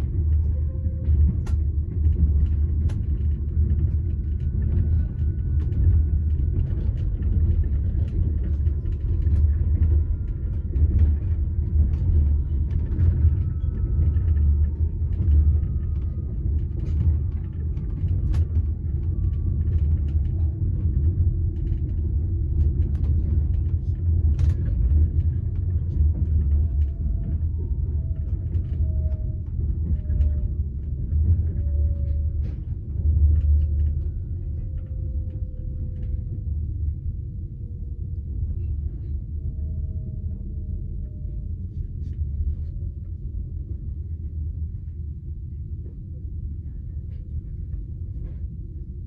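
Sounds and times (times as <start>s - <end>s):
train carriage rumbling on rails: 0.0s - 49.0s.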